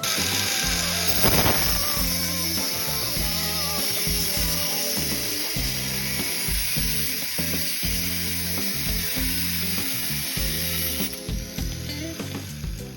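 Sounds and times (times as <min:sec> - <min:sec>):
bright steady hiss: 0:00.0 - 0:11.3
music with thumping beat: 0:00.0 - 0:12.9.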